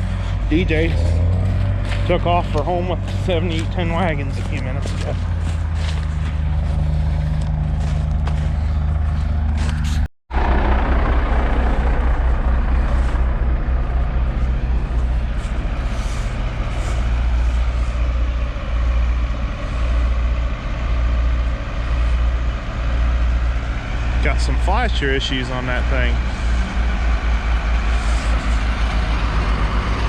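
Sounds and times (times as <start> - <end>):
road noise: 0.0 - 30.0
vehicle engine humming: 0.0 - 30.0.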